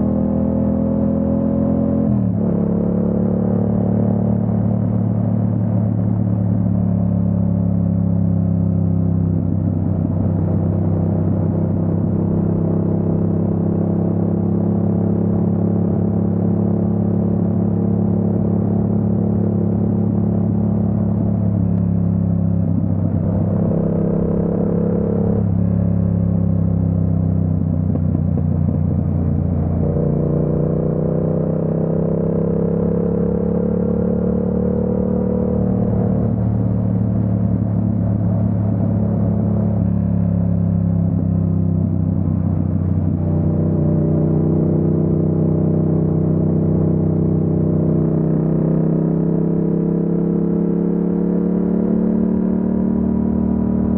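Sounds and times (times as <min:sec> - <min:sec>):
motorcycle engine running: 0:02.2 - 0:53.9.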